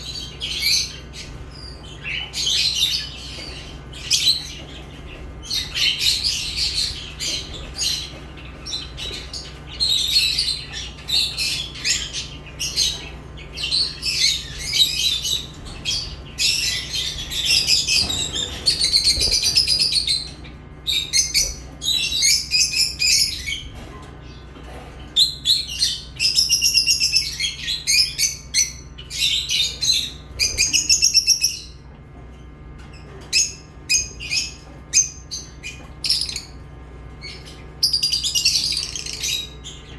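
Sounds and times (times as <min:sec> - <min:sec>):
lovebirds chirping shrilly: 0:00.0 - 0:31.9, 0:32.9 - 0:39.9.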